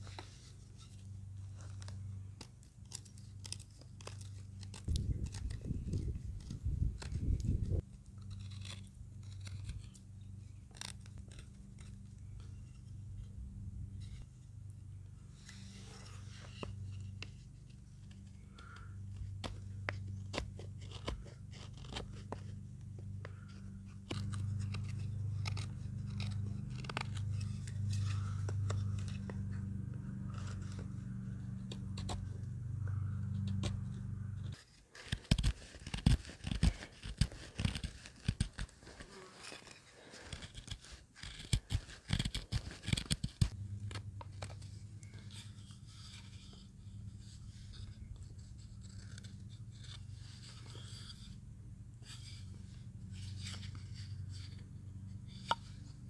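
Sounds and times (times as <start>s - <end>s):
low steady hum: 0.0s - 37.1s, 42.4s - 56.0s
crunching and scraping: 0.0s - 51.4s.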